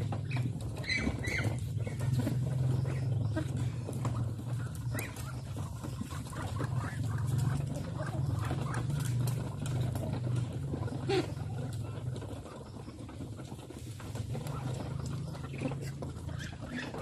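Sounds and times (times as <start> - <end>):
bills pecking at feed: 0.0 - 17.0
ducks and chickens calling: 0.0 - 17.0.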